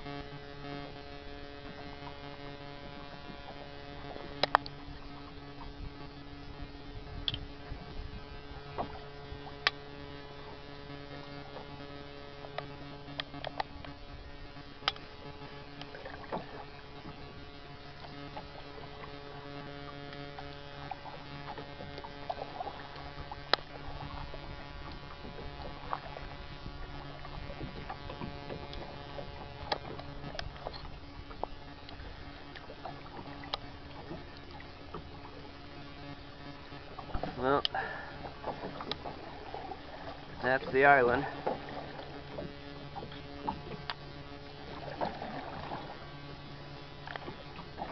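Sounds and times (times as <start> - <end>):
low electrical hum: 0.0 - 47.9
paddle splashing water: 0.0 - 47.9.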